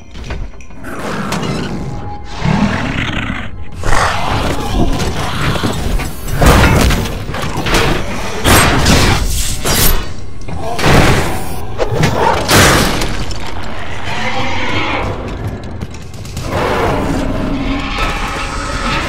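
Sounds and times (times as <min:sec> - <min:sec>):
action film music: 0:00.0 - 0:19.0.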